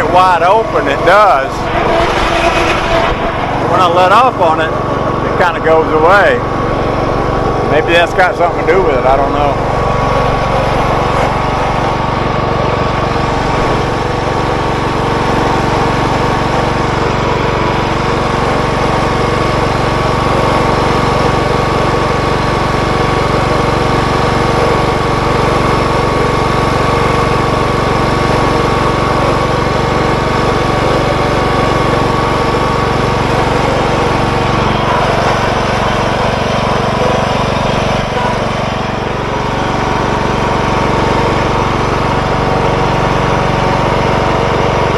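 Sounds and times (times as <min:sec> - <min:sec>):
mower transmission whine: 0:00.0 - 0:44.9
riding mower engine running: 0:00.0 - 0:44.9.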